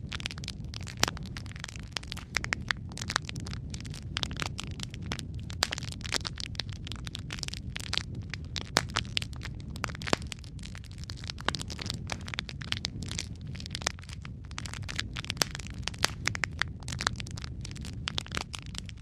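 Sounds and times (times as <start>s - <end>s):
low rumble of flame: 0.0s - 19.0s
wood fire crackling and popping: 0.0s - 19.0s.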